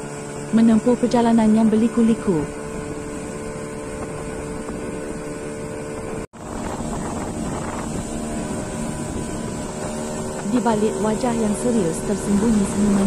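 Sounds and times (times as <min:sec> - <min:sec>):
outboard motor running: 0:00.0 - 0:13.0
wind buffeting microphone: 0:01.3 - 0:13.0.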